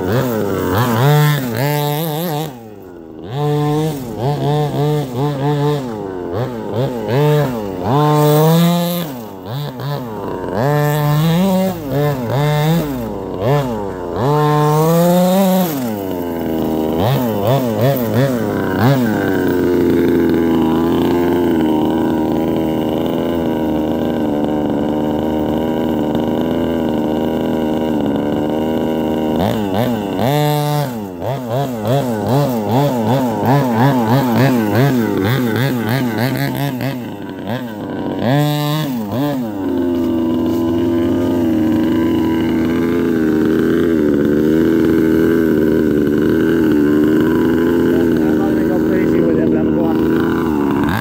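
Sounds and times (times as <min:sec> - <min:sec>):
engine revving in blips: 0:00.0 - 0:51.0
small two-stroke engine idling: 0:00.0 - 0:51.0.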